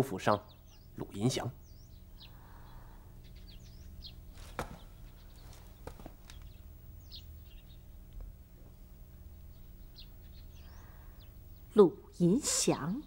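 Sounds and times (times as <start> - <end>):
small birds chirping: 0.0 - 13.0
low hum: 0.5 - 13.0.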